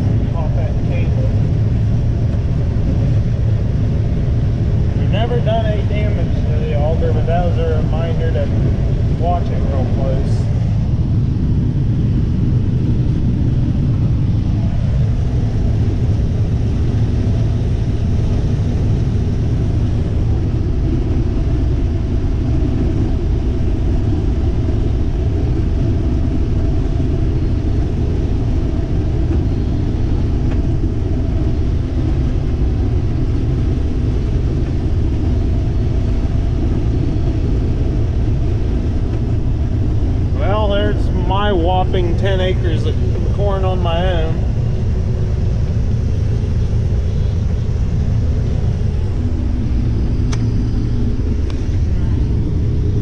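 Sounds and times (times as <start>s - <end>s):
combine harvester engine drone: 0.0s - 53.0s
faint steady hum: 0.0s - 53.0s.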